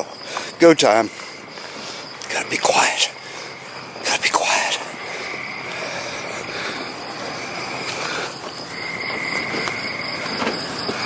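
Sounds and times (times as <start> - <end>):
background hiss: 0.0 - 11.0
crickets trilling: 0.0 - 11.0.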